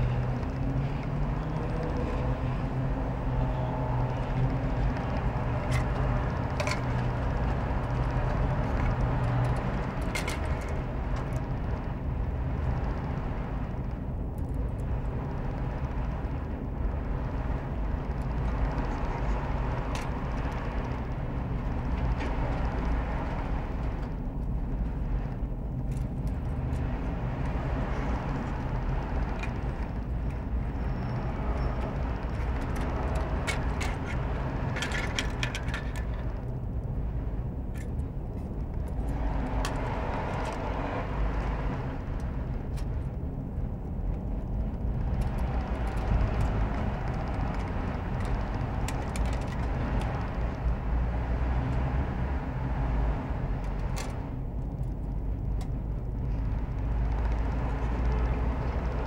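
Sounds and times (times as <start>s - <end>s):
low background rumble: 0.0s - 59.0s.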